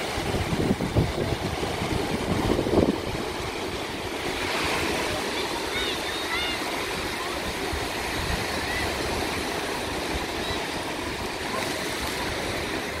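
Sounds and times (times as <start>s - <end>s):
waves washing up beach: 0.0s - 13.0s.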